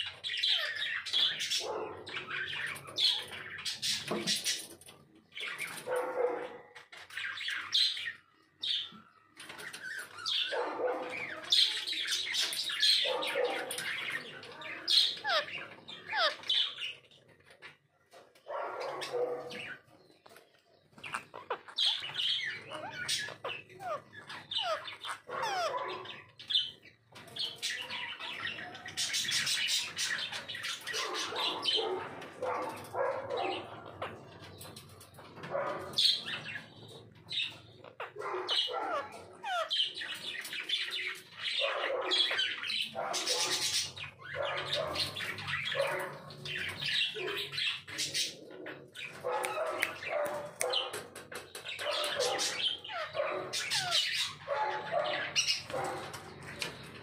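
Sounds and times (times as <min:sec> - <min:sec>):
parakeets chirping and squawking: 0:00.0 - 0:57.0.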